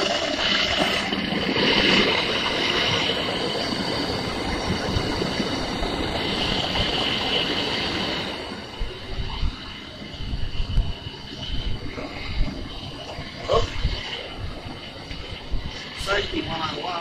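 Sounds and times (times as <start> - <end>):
blowtorch flame rushing: 0.0 - 17.0.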